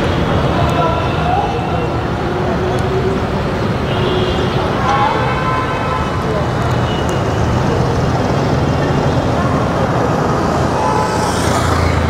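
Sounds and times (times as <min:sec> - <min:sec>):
engine and tyre rumble: 0:00.0 - 0:12.0
road traffic noise: 0:00.0 - 0:12.0.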